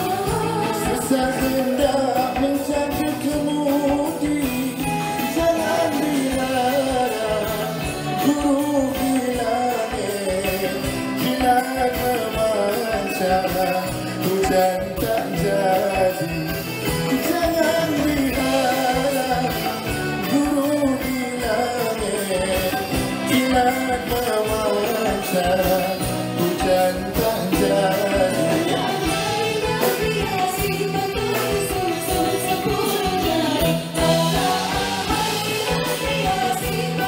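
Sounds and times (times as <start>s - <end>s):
live band playing pop: 0.0s - 37.0s
man singing: 0.0s - 37.0s.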